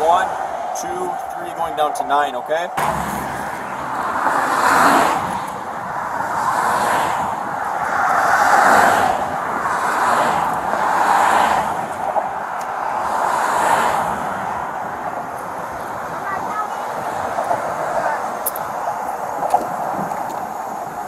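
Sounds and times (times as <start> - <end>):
vehicles passing on highway: 0.0 - 21.0.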